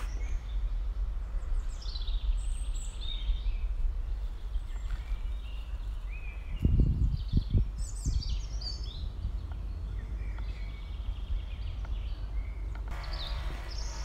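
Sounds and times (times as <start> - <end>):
small birds chirping: 0.0 - 14.0
wind rumble on microphone: 0.0 - 14.0.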